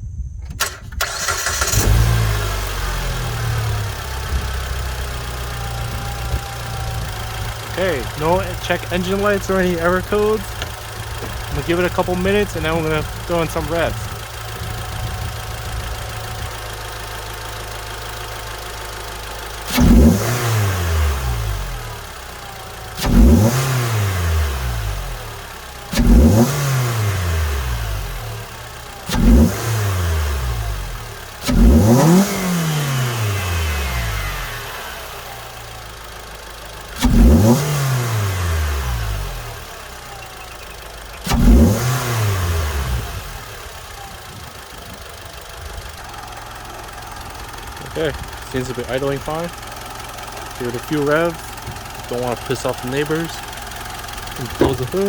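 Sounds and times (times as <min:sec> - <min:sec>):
car engine idling and revving: 0:00.6 - 0:55.0.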